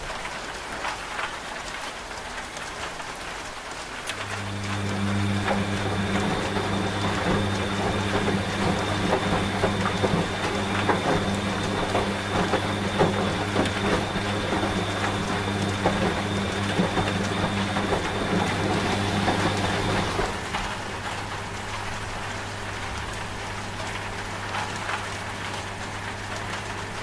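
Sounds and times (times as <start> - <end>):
rain pattering: 0.0 - 27.0
washing machine humming: 4.0 - 27.0.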